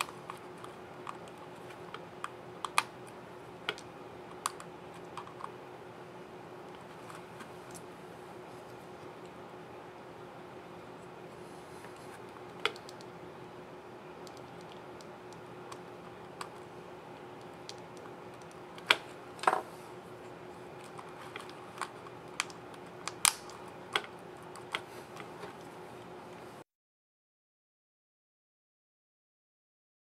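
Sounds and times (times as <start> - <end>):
faint steady hum: 0.0 - 26.6.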